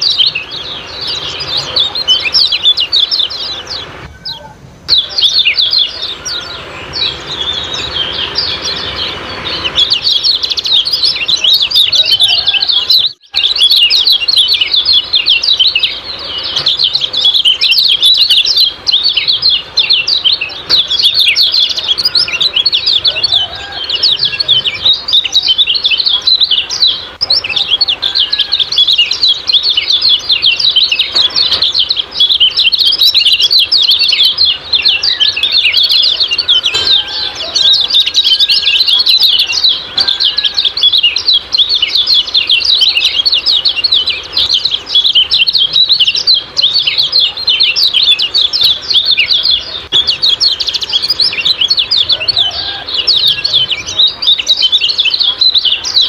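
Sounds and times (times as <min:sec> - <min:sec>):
birds chirping rapid high calls: 0:00.0 - 0:56.0.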